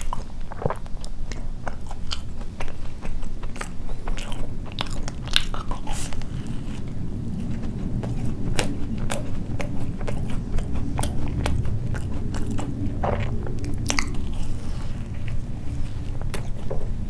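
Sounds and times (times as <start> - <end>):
biting and chewing: 0.0 - 17.0
low background rumble: 0.0 - 17.0.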